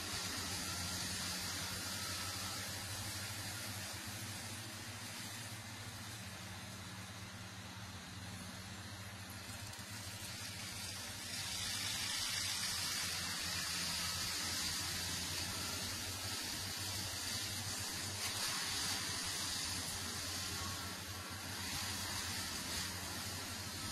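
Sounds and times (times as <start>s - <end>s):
tractor diesel engine drone: 0.0s - 23.9s.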